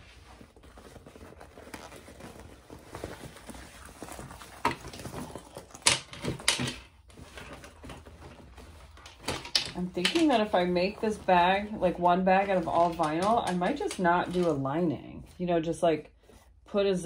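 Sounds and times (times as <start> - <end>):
vinyl bag rustling and crinkling: 0.0 - 15.3.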